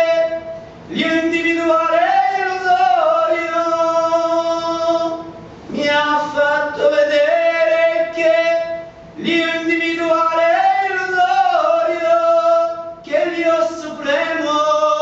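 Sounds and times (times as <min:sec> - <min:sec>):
man singing solo: 0:00.0 - 0:15.0.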